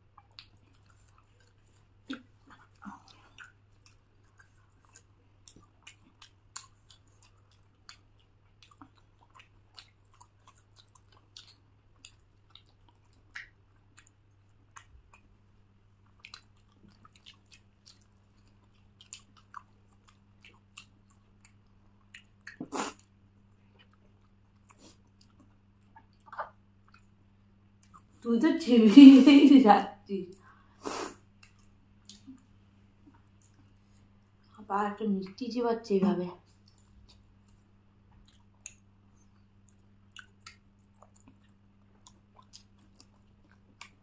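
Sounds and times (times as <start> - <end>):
chewing with wet mouth clicks: 0.0 - 28.1, 31.3 - 34.6, 36.5 - 44.0.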